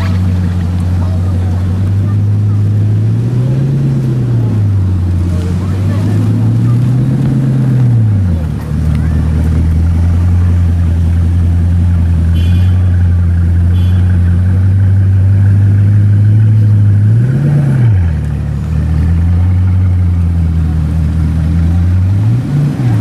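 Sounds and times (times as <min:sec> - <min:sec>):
car engine running under load: 0:00.0 - 0:23.0.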